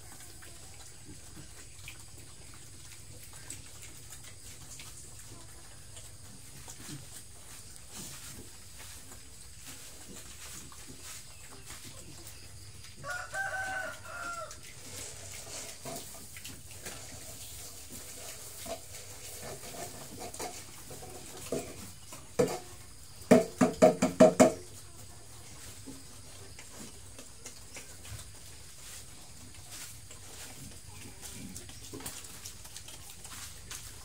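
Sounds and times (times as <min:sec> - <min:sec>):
farmyard animal calls: 0:00.0 - 0:34.0
piglets feeding at a trough: 0:00.0 - 0:34.0.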